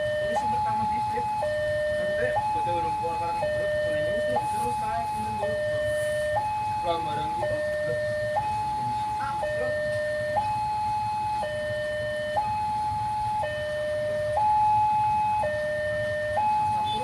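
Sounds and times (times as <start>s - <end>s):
low steady rumble: 0.0s - 17.0s
two-tone level crossing siren: 0.0s - 17.0s.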